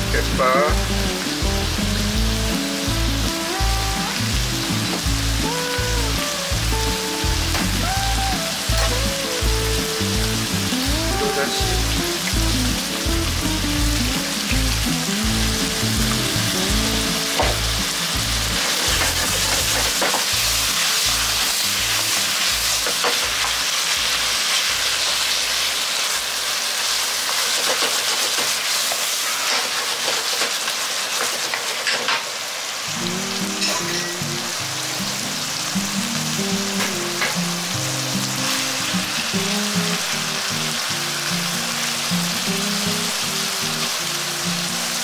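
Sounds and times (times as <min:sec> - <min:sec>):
food sizzling in a frying pan: 0:00.0 - 0:45.0.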